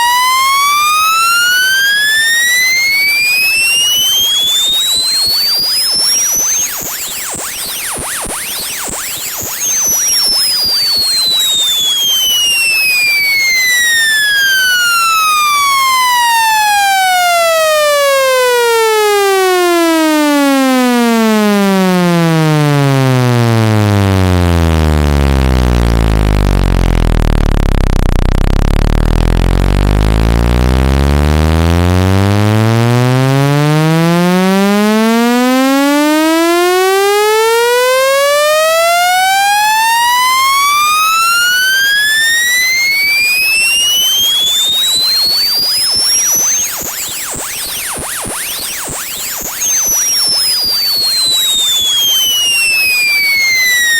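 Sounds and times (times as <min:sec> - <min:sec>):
buzzy sweeping test tone: 0:00.0 - 0:53.9.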